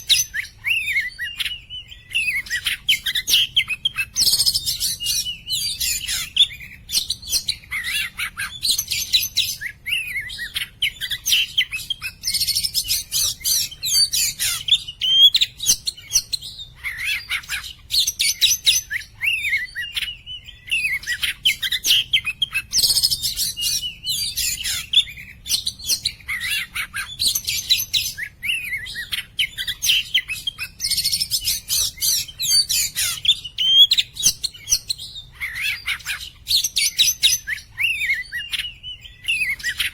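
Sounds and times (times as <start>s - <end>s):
songbird singing whistled trills: 0.0s - 39.9s.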